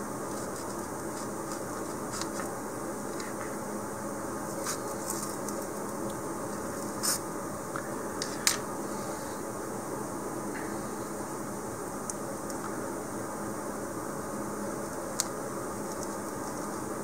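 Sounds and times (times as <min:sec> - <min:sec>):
background hiss and hum: 0:00.0 - 0:17.0.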